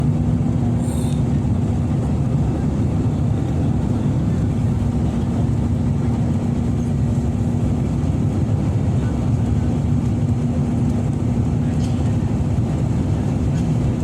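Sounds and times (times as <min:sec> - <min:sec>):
airliner cabin engine drone: 0:00.0 - 0:14.0
constant hum: 0:00.0 - 0:14.0.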